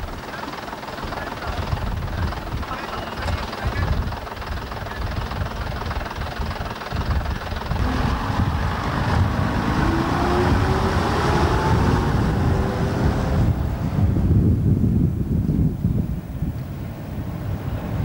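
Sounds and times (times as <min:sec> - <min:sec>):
bus engine low rumble: 0:00.0 - 0:18.0.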